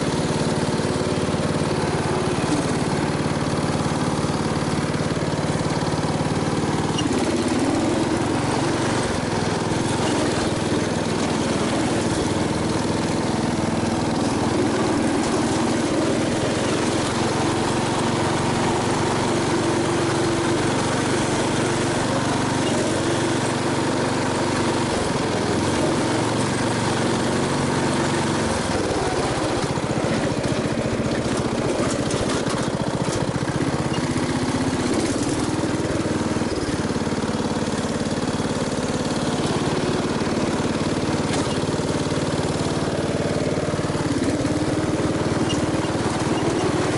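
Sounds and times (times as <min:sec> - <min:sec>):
riding mower engine running: 0:00.0 - 0:46.9.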